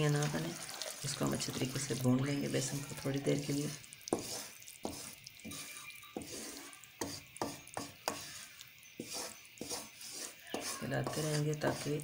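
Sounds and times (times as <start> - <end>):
wooden spoon scraping a pot: 0.0 - 12.0.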